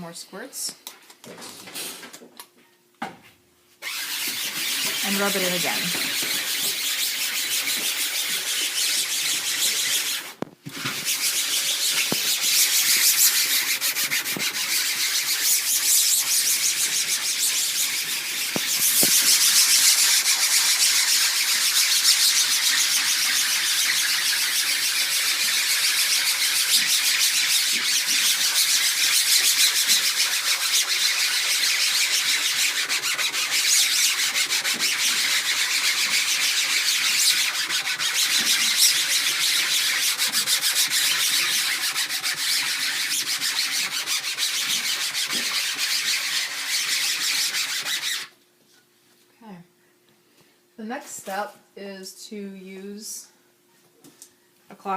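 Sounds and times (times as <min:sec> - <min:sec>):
sponge scrubbing mesh screen: 0:03.8 - 0:48.3.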